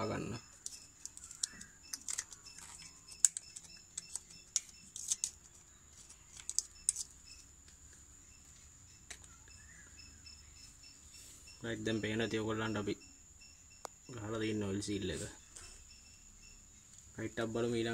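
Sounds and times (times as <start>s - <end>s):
crickets chirring: 0.0s - 17.9s.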